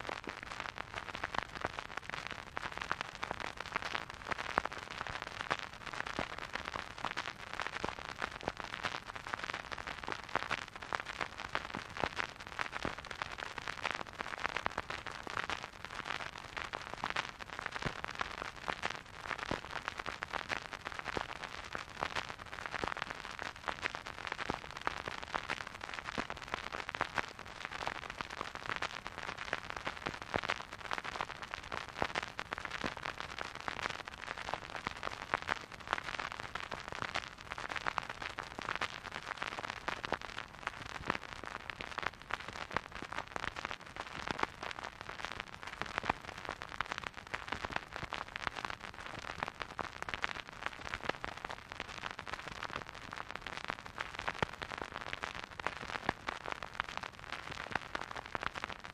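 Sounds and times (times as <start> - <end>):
vinyl record crackle: 0.0 - 58.9.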